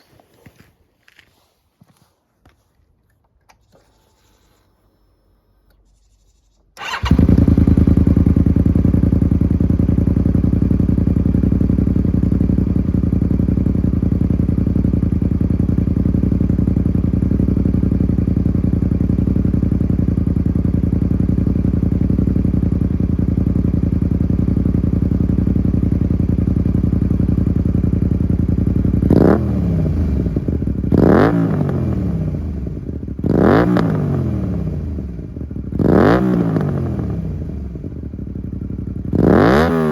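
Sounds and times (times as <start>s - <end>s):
motorcycle engine idling and revving: 5.6s - 39.9s.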